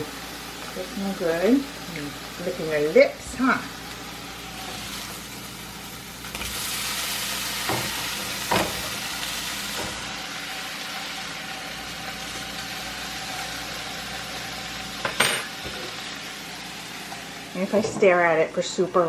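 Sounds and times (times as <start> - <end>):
meat sizzling in a hot pan: 0.0 - 17.8.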